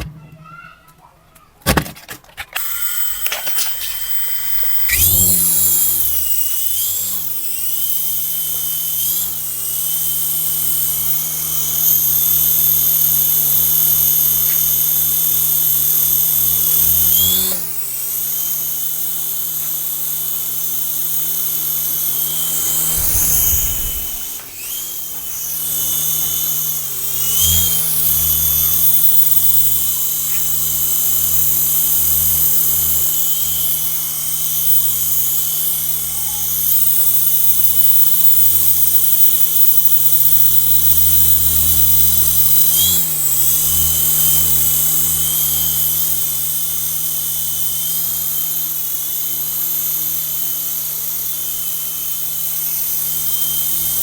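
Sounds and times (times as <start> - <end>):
toy helicopter motor whining: 2.1 - 54.0.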